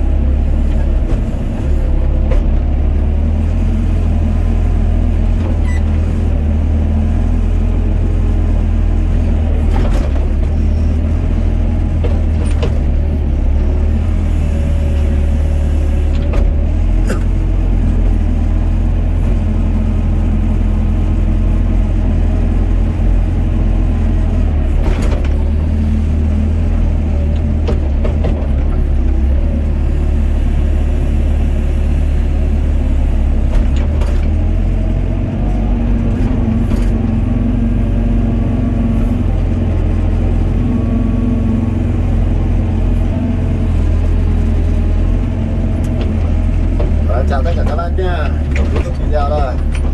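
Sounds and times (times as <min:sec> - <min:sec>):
diesel engine low rumble: 0:00.0 - 0:49.9.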